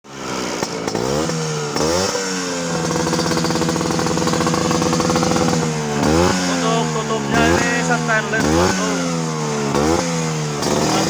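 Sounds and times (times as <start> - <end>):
scooter engine revving: 0.1 - 11.0.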